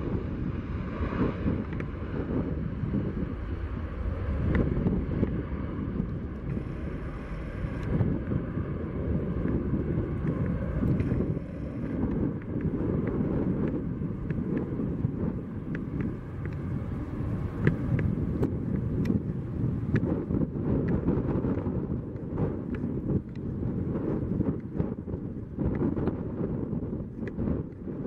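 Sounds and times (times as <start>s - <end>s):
jet engines rumbling: 0.0s - 28.0s
wind buffeting microphone: 0.0s - 28.0s.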